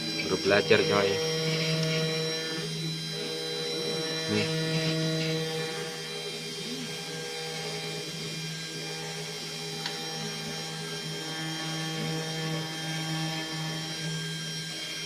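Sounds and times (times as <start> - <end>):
stepper motors driving: 0.0 - 12.4
spindle motor whine: 0.0 - 15.0.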